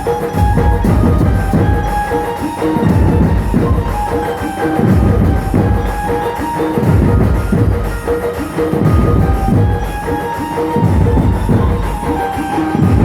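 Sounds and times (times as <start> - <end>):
drums pounding a steady beat: 0.0 - 13.0
melody of held notes: 0.0 - 13.0.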